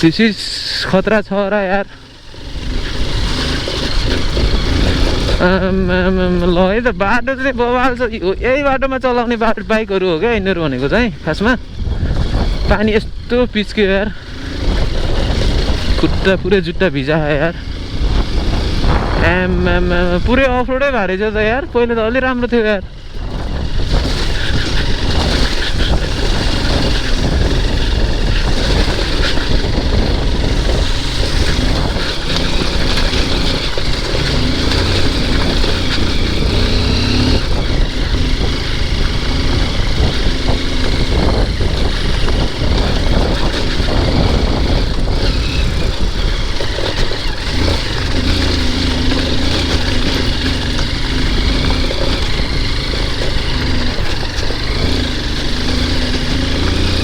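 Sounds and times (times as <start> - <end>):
dirt bike engine revving: 0.0 - 57.0
wind rush on microphone: 2.3 - 57.0.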